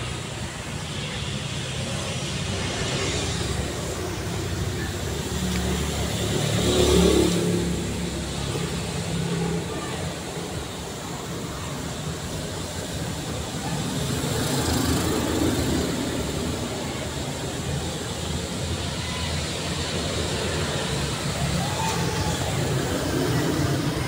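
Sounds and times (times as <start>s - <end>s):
steady road noise: 0.0s - 24.0s
vehicle passing by: 2.3s - 10.9s, 12.6s - 24.0s.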